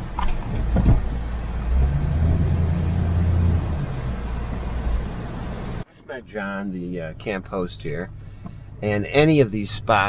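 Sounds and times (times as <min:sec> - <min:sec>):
truck engine hum: 0:00.0 - 0:05.8, 0:06.7 - 0:10.0.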